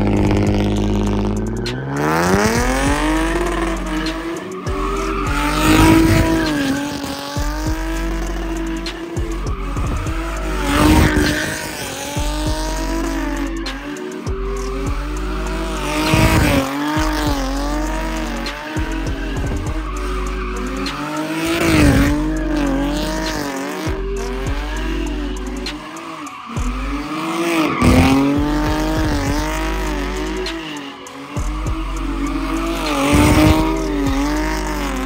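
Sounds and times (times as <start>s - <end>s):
car engine revving: 0.0s - 35.0s
tyres squealing: 0.0s - 35.0s.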